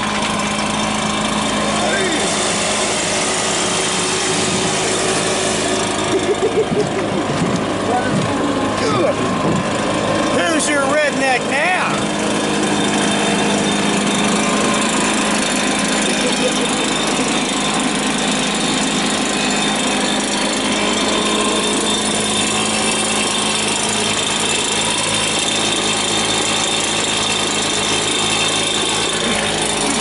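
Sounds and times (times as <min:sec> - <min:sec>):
blower engine running: 0:00.0 - 0:30.0.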